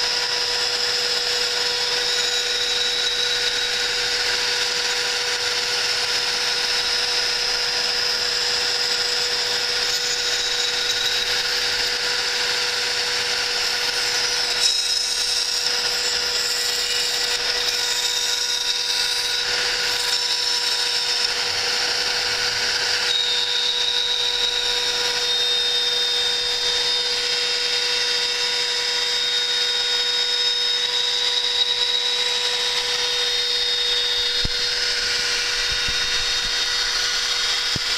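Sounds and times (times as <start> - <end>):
cnc router spindle whine: 0.0 - 37.9
end mill cutting metal: 0.0 - 37.9.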